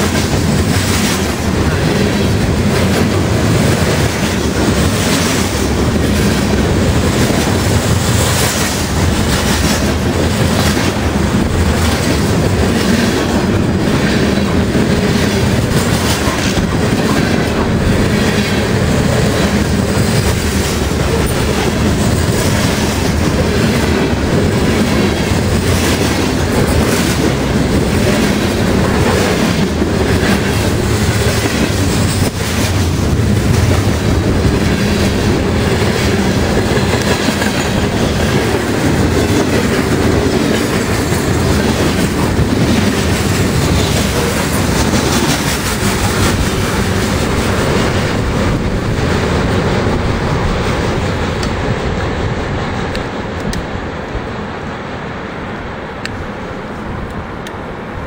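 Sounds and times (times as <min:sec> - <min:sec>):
wheels clicking over rail joints: 0:00.0 - 0:52.0
train wheels rumbling on rail: 0:00.0 - 0:58.0.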